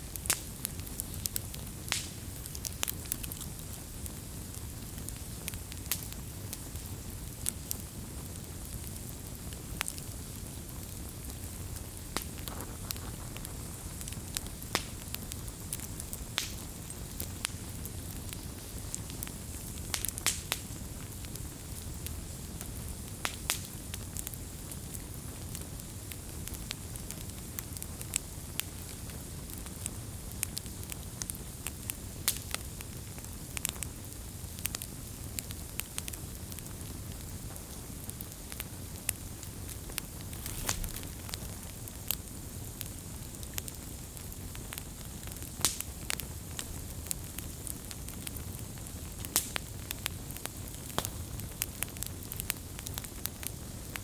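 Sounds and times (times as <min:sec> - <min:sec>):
campfire flames rumbling: 0:00.0 - 0:54.0
fire crackles and pops: 0:00.0 - 0:54.0.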